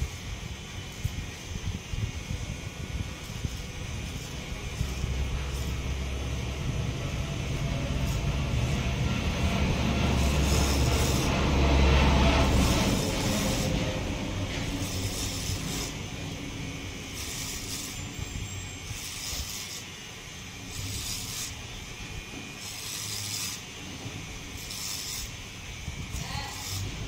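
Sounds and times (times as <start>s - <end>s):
faint motor hum: 0.0s - 27.0s
hair clipper rasping: 0.0s - 27.0s.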